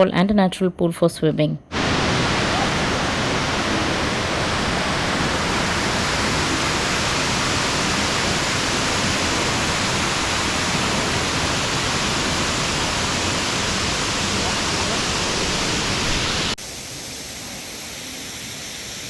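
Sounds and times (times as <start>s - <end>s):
waterfall rushing into pool: 1.7s - 19.0s.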